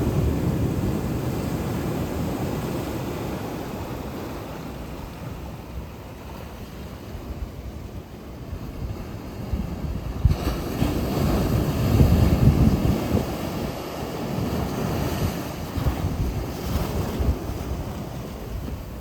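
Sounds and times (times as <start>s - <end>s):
sea waves washing on shore: 0.0s - 19.0s.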